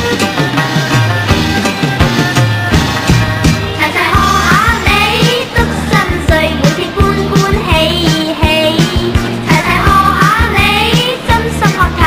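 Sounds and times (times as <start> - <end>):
song with singer over beat: 2.2 - 12.0.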